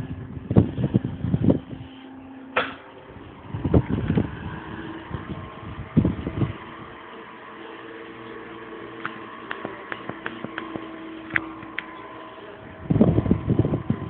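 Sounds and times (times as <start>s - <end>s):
table fan motor hum: 0.0s - 14.0s.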